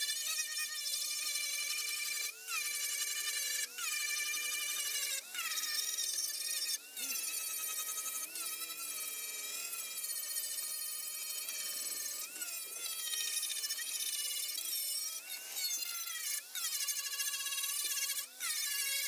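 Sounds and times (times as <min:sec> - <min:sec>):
power tool motor whining: 0:00.0 - 0:19.0.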